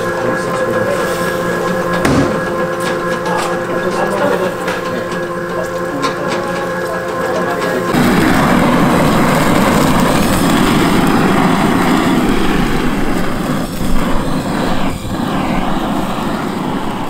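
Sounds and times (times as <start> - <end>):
gas torch flame rushing: 0.0 - 5.7, 7.8 - 17.0.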